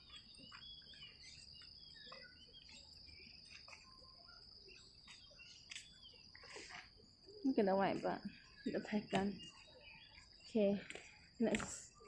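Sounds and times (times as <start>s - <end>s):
bird chirps: 0.0s - 12.0s
insect drone: 0.0s - 12.0s.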